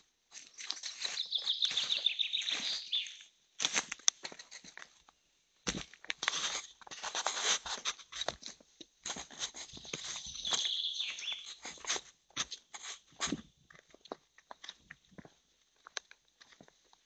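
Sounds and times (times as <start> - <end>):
footsteps on stony dirt path: 0.3 - 5.0, 5.6 - 17.0.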